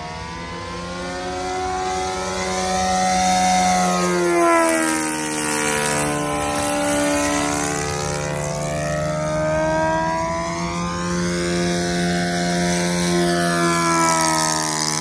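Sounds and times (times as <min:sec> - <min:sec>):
model aircraft engine flyby: 0:00.0 - 0:15.0.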